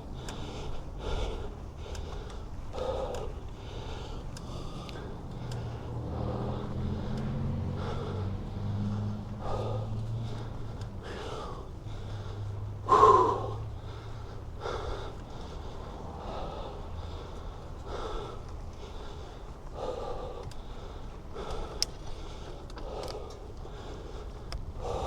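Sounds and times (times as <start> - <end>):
heavy breathing: 0.0 - 25.0.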